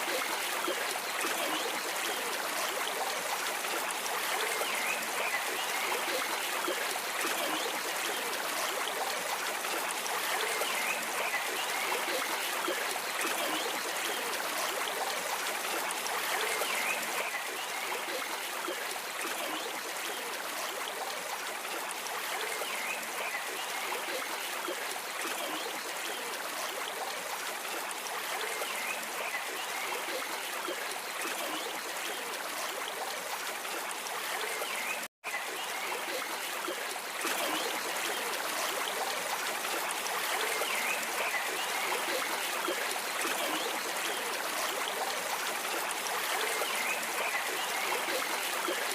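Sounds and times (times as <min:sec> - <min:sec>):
stream water trickling: 0:00.0 - 0:48.9.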